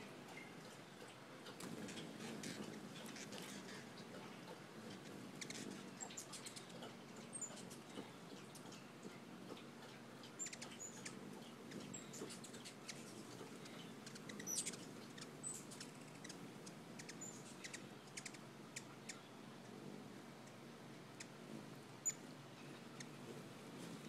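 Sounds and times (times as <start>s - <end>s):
hummingbird chip calls: 0.3s - 24.0s.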